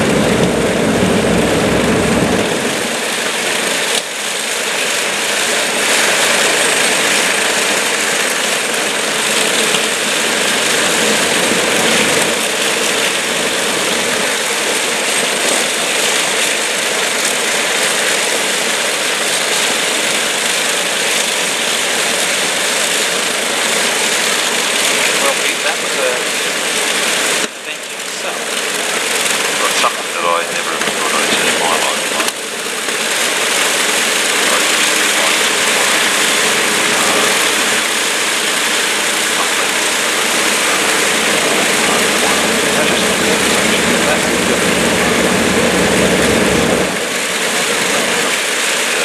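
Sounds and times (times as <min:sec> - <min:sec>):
radial piston engines running: 0:00.0 - 0:49.0.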